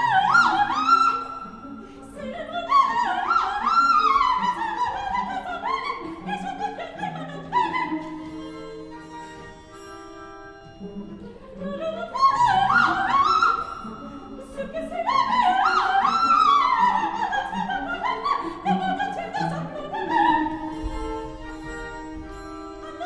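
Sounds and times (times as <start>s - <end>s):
soprano singing: 0.0s - 23.0s.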